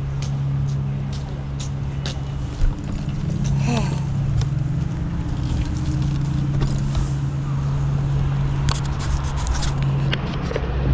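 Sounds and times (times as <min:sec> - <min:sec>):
vehicle engine idling: 0:00.0 - 0:10.4
street noise: 0:00.0 - 0:10.9.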